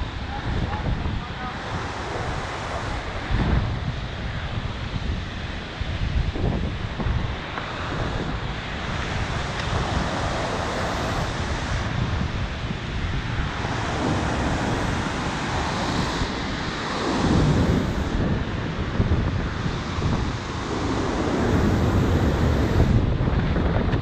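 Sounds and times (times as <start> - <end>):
meltwater torrent rushing: 0.0 - 24.0
wind buffeting microphone: 0.0 - 24.0.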